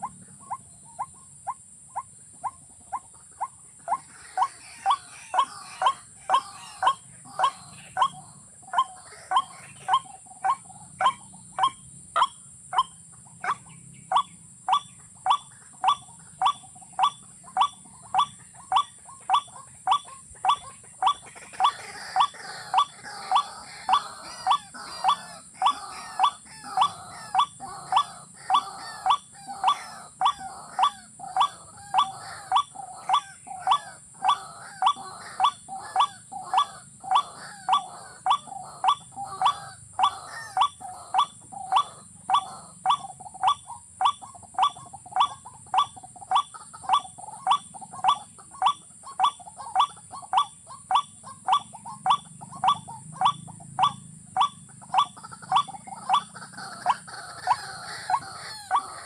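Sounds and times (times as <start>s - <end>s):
bird calling: 0.0s - 59.0s.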